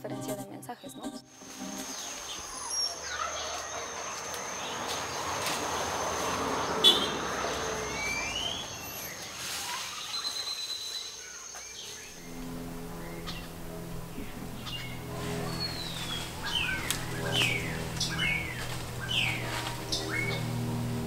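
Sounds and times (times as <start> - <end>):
birds chirping: 0.0 - 21.0
steady high whine: 0.0 - 21.0
vehicle passing with rushing rumble: 1.6 - 10.1, 12.0 - 21.0.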